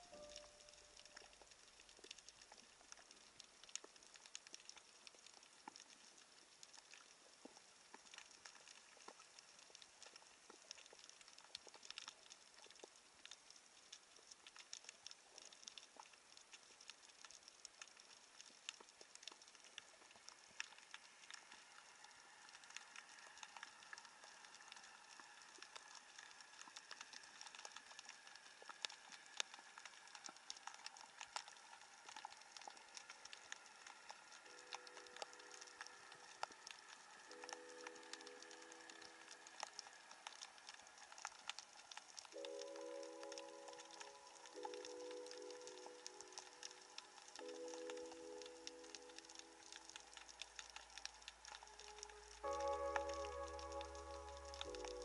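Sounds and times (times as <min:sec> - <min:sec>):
faint steady tone: 0:00.0 - 0:55.0
underwater crackle of tiny clicks: 0:00.0 - 0:55.0.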